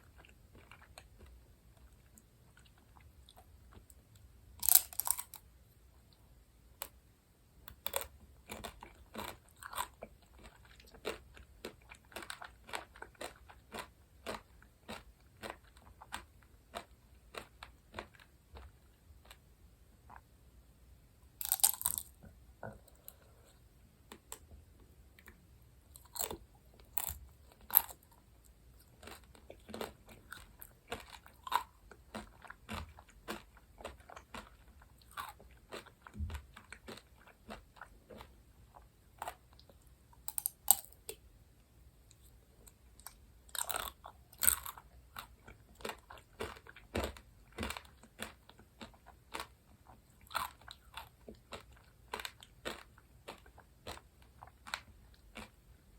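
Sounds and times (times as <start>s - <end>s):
person chewing crunchy sweets: 0.0s - 5.5s, 7.7s - 19.5s, 21.4s - 24.5s, 25.2s - 41.2s, 42.1s - 55.9s.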